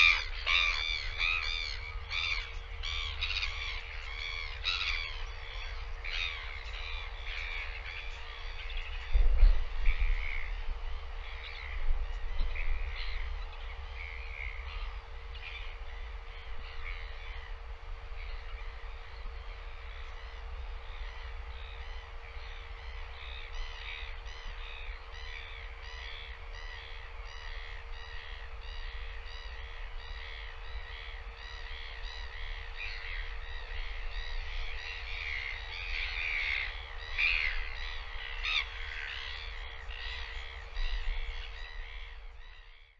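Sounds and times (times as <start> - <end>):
steady hum: 0.0 - 42.8.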